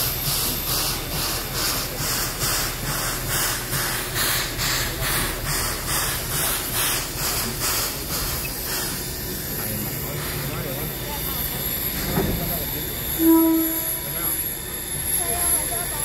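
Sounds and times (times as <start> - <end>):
steam locomotive hissing puffs: 0.0 - 16.0.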